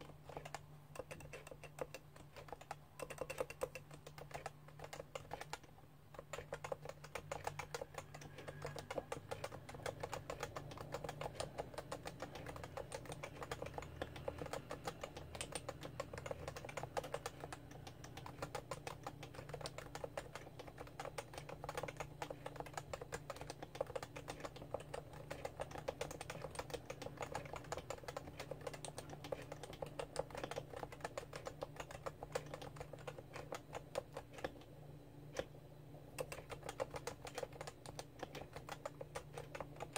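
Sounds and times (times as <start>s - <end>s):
faint low hum: 0.0s - 39.9s
fast typing on keyboard: 0.0s - 39.9s.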